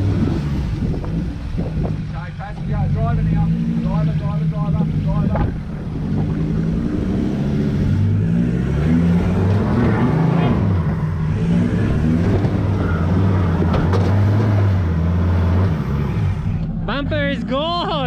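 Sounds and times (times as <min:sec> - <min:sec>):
engine working at low revs: 0:00.0 - 0:18.0.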